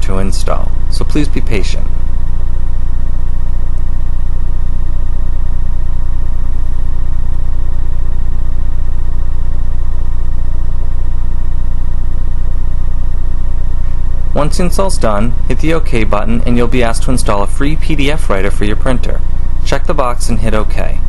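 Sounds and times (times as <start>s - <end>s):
loud low hum: 0.0s - 21.0s.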